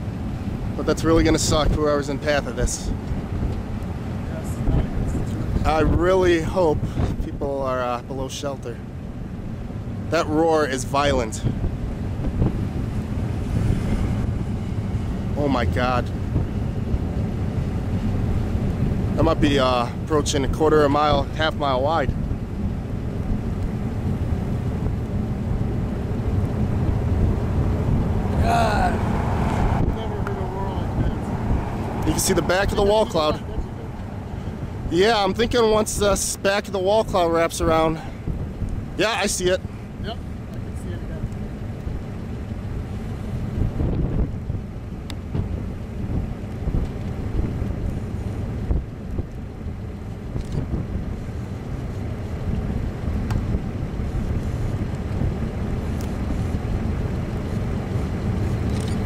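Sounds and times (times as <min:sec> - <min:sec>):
wind buffeting microphone: 0:00.0 - 0:08.3, 0:08.9 - 0:59.0
tornado roaring: 0:00.0 - 0:59.0.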